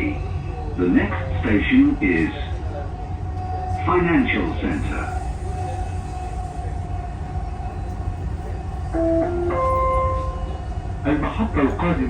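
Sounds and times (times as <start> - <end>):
metro train rumble: 0.0 - 12.0
train whine: 0.0 - 12.0.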